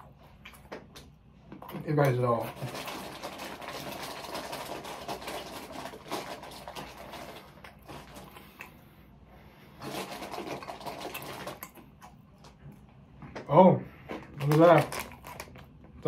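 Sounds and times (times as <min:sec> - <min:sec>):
close chewing and wet mouth sounds: 0:00.0 - 0:13.4, 0:14.0 - 0:16.0.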